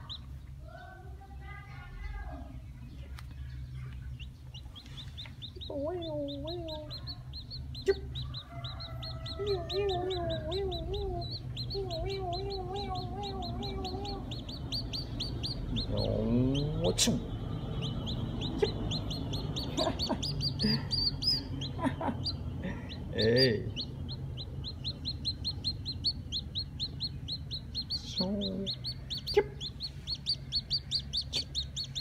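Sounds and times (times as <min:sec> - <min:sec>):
chick peeping: 0:00.0 - 0:32.0.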